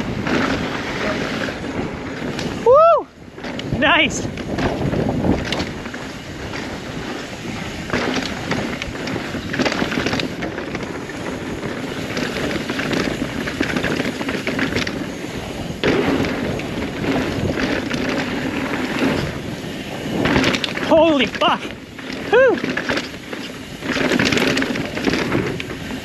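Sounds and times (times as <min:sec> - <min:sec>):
bike clattering over rough ground: 0:00.0 - 0:26.0
tyres rushing on dirt: 0:00.0 - 0:26.0
wind: 0:00.0 - 0:26.0.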